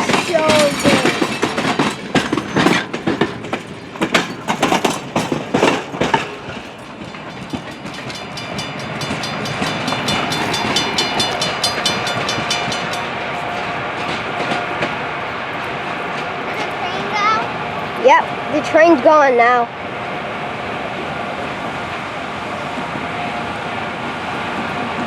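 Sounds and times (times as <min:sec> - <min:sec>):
train wheels clattering on rails: 0:00.0 - 0:25.0.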